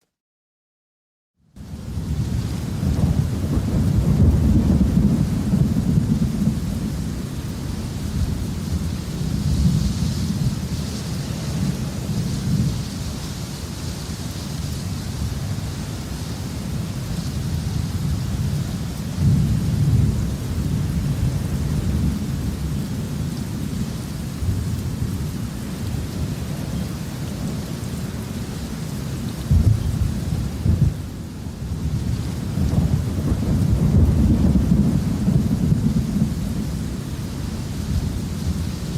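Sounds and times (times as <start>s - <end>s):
steady rain hiss: 1.4s - 38.9s
low rolling thunder: 1.6s - 13.3s, 16.4s - 27.6s, 29.4s - 38.9s.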